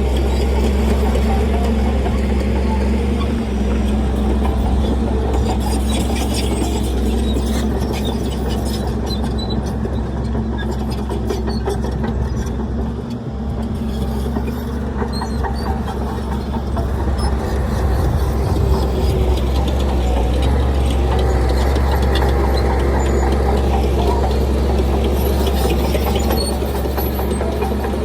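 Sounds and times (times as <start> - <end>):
diesel machinery running: 0.0 - 28.0
metal clanks and squeaks: 0.1 - 28.0.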